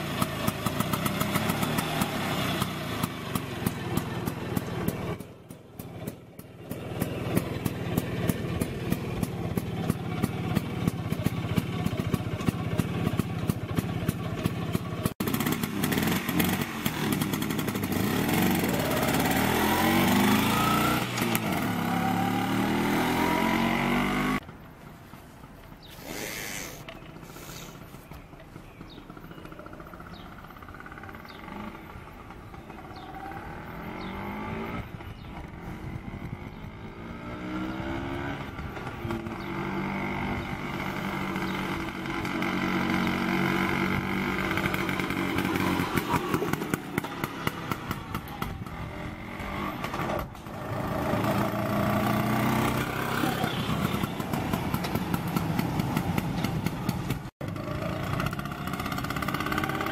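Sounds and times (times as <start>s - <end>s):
scooter engine running: 0.0s - 24.6s, 26.6s - 59.9s.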